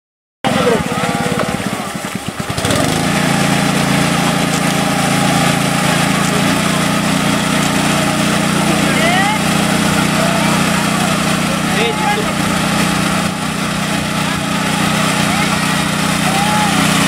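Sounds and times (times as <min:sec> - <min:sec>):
small engine running: 0:00.5 - 0:17.0.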